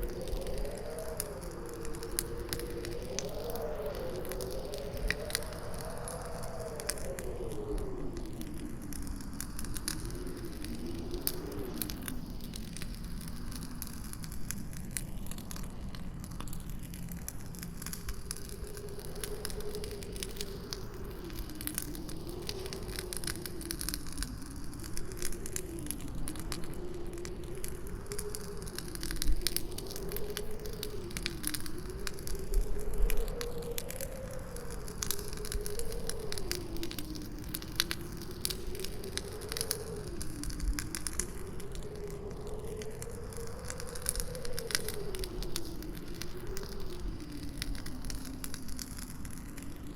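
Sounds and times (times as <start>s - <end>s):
campfire crackling: 0.0s - 49.9s
howling wind: 0.0s - 49.9s.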